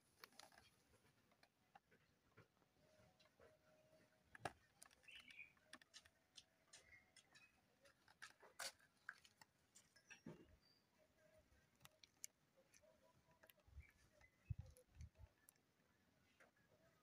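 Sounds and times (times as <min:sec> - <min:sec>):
faint clicks and ticks: 0:00.0 - 0:17.0.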